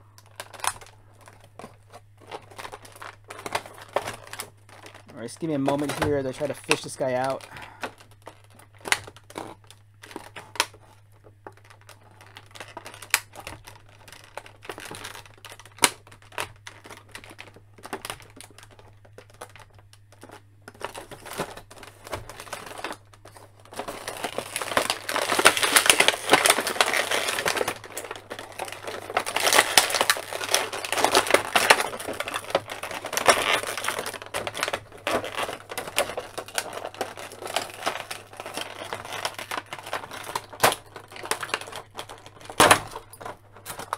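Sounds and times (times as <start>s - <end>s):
plastic packaging crinkling: 0.0s - 43.9s.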